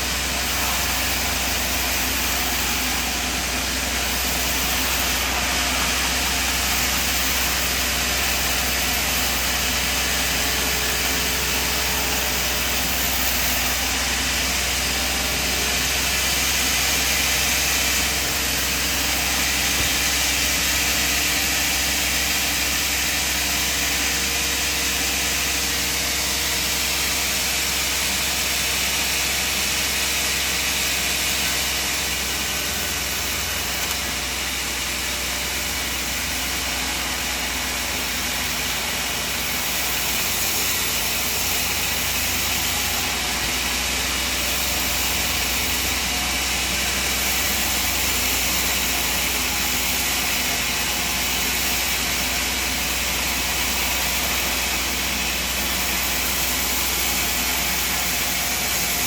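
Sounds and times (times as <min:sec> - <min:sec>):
engine drone: 0:00.0 - 0:59.0
strong machinery hiss: 0:00.0 - 0:59.0.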